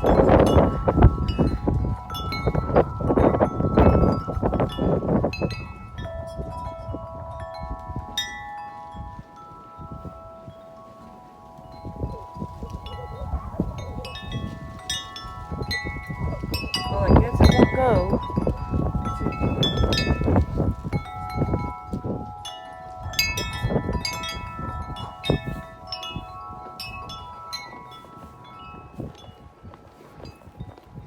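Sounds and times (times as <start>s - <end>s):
wind chime ringing: 0.0s - 31.0s
wind rumble on microphone: 0.0s - 31.0s.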